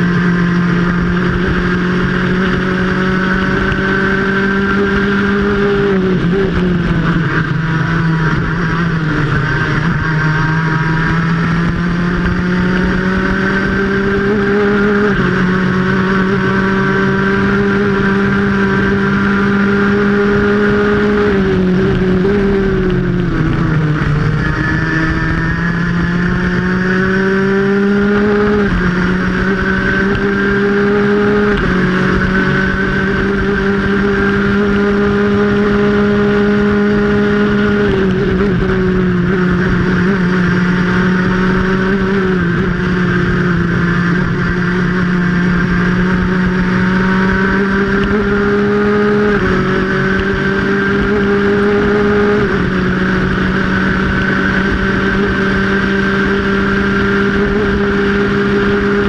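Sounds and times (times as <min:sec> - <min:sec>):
kart engine at high revs: 0:00.0 - 0:59.0
wind rushing over microphone: 0:00.0 - 0:59.0.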